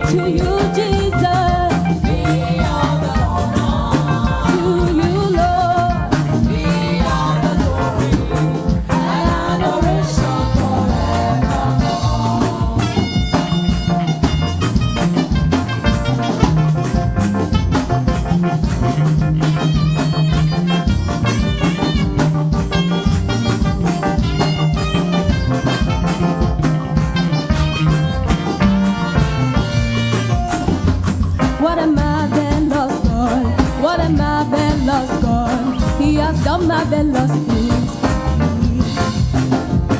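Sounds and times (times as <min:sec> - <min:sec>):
drum kit beat: 0:00.0 - 0:39.9
gospel band playing: 0:00.0 - 0:39.9
repeating bass line: 0:00.0 - 0:39.9.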